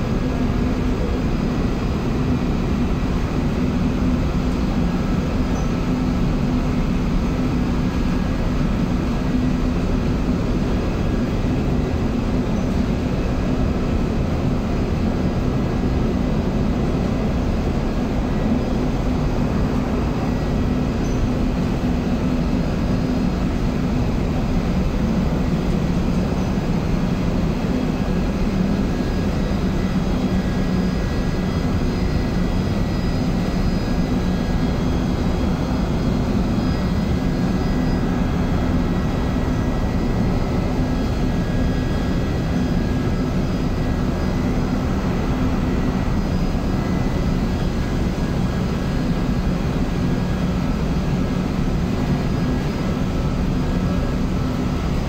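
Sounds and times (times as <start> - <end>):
air handling unit drone: 0.0 - 55.0.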